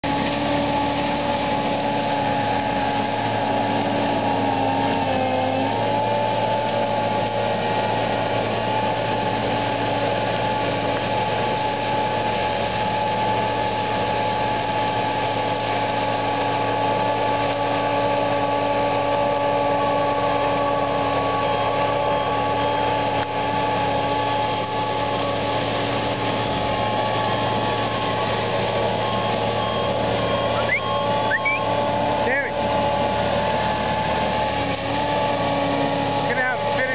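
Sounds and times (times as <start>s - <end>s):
mulcher engine drone with whine: 0.0s - 36.9s.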